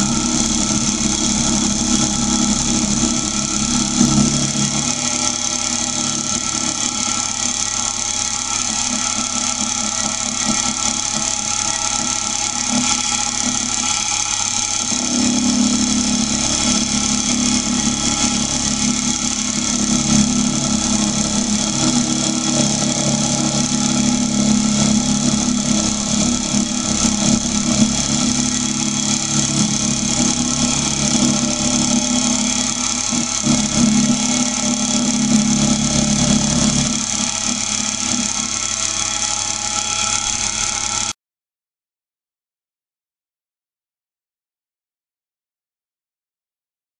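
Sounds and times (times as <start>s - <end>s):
drill press milling metal: 0.0s - 41.1s.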